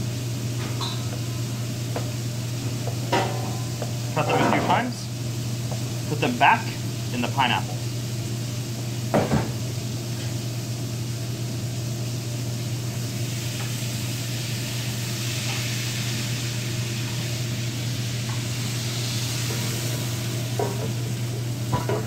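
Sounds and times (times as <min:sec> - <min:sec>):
kitchen background hiss: 0:00.0 - 0:22.0
steady low hum: 0:00.0 - 0:22.0.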